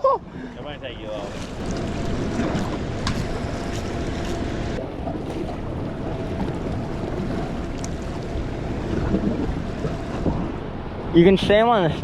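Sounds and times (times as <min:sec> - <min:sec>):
water around a boat: 0:00.0 - 0:12.0
wind buffeting microphone: 0:00.2 - 0:12.0.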